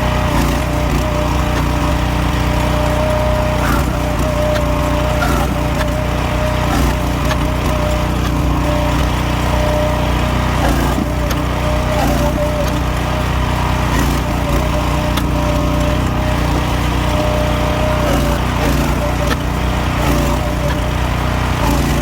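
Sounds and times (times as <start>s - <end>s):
engine drone and whine: 0.0s - 22.0s.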